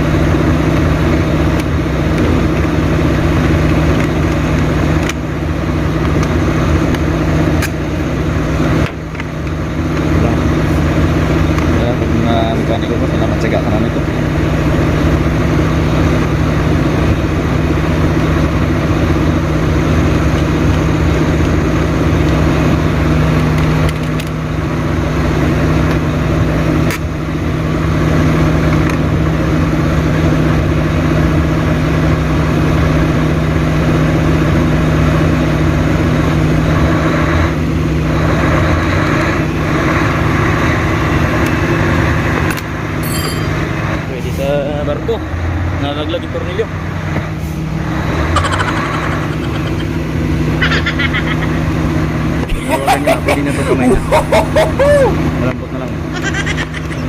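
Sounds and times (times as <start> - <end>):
large engine idling: 0.0 - 57.0.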